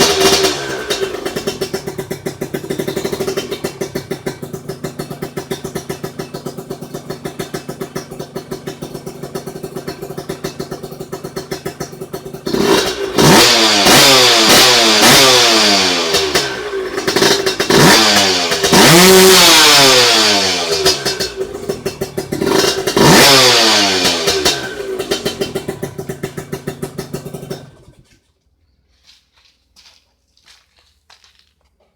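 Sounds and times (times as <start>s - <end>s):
engine idling and revving: 0.0s - 28.2s.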